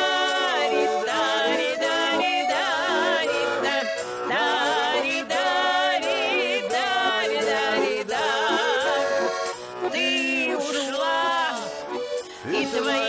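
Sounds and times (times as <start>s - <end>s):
held instrumental accompaniment: 0.0s - 13.0s
person singing with strong vibrato: 0.0s - 13.0s.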